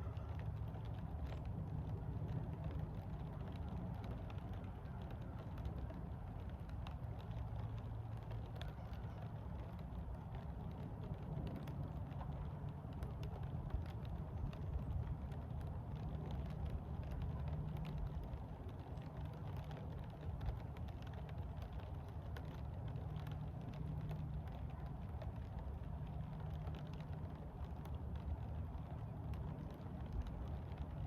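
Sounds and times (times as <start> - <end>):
light rain pattering: 0.0 - 31.0
low outdoor rumble: 0.0 - 31.0.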